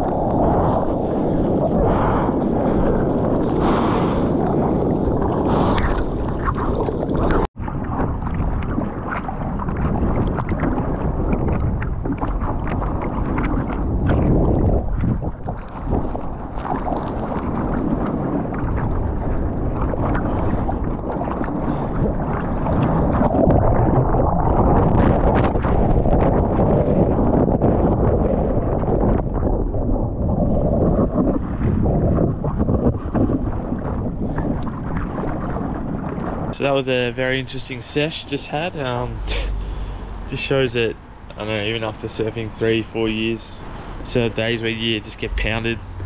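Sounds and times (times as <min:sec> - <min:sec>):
sea water sloshing and splashing: 0:00.0 - 0:46.0
wind buffeting: 0:00.0 - 0:46.0.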